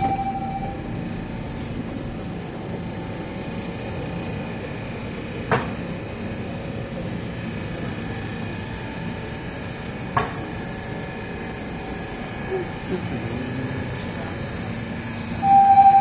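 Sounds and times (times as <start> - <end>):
subway car equipment droning: 0.0 - 16.0.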